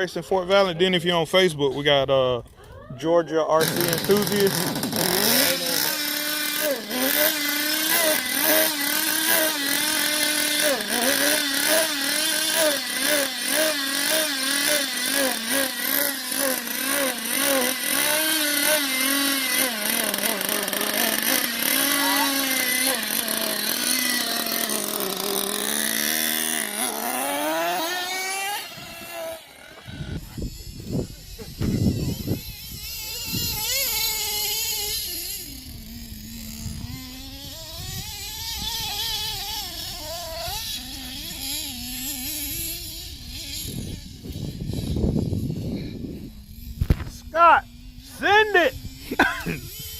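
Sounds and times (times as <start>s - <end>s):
rc car engine revving: 3.5s - 49.9s.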